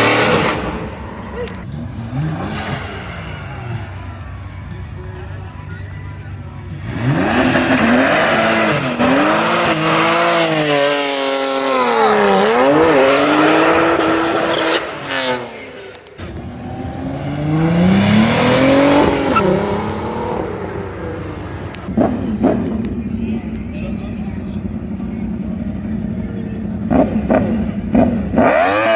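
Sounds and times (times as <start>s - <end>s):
vehicle engine revving: 0.0s - 28.9s.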